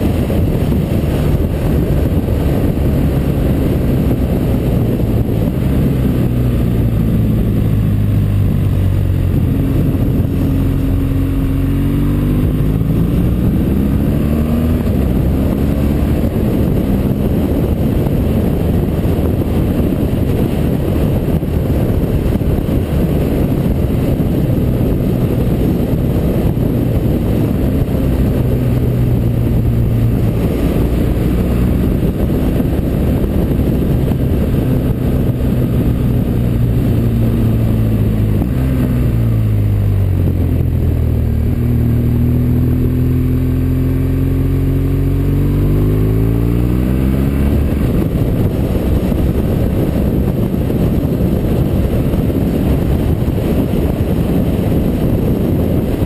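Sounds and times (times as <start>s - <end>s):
motorcycle engine running: 0.0s - 56.0s
wind rushing on microphone: 0.0s - 56.0s.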